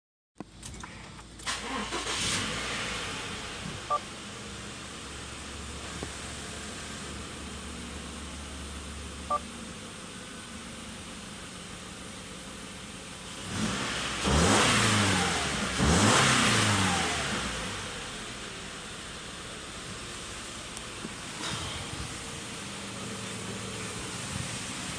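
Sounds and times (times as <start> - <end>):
car engine idling and revving: 0.4 - 24.9.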